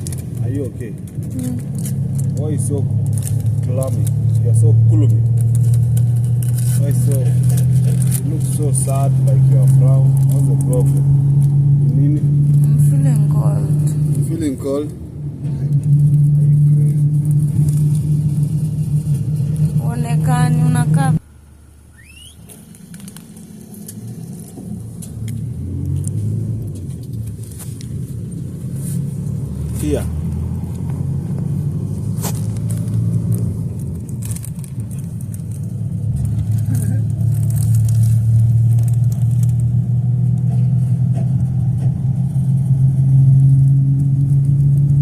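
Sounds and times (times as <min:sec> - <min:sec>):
road vehicle rumble: 0:00.0 - 0:45.0.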